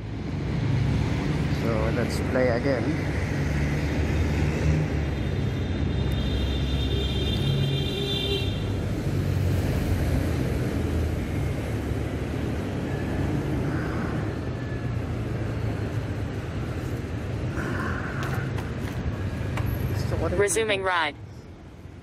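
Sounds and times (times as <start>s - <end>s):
low rumble of road traffic: 0.0s - 22.0s.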